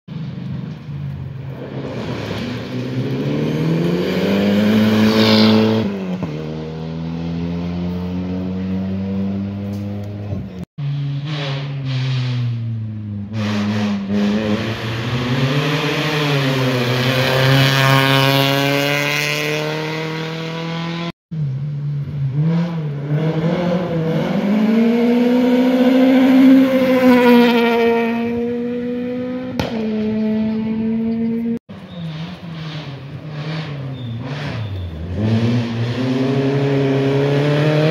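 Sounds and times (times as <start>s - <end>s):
rally car engine at high revs: 1.5s - 37.9s.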